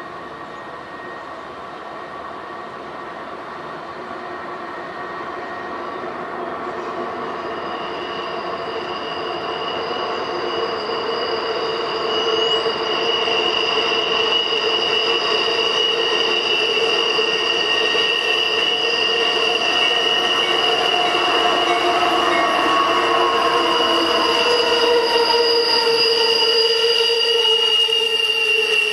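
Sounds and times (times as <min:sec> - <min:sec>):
diesel train running: 0:00.0 - 0:28.9
high-pitched wheel squeal: 0:04.2 - 0:28.9.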